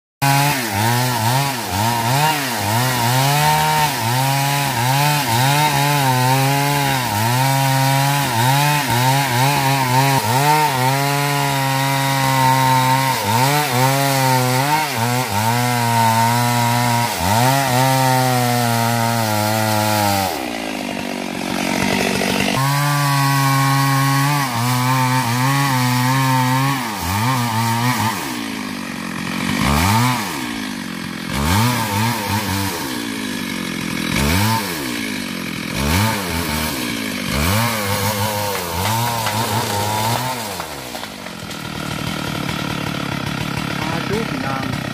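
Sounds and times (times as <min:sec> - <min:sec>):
chainsaw cutting wood: 0:00.2 - 0:44.9.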